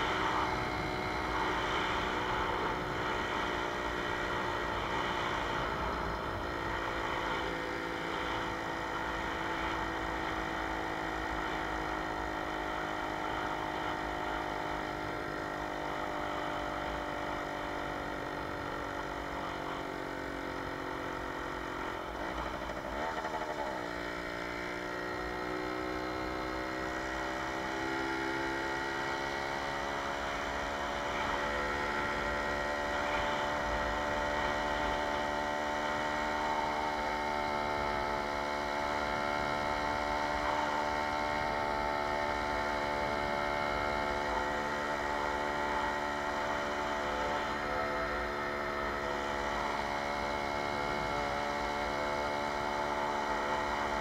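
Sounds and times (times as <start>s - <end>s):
moped two-stroke engine running: 0.0s - 14.5s, 16.9s - 54.0s.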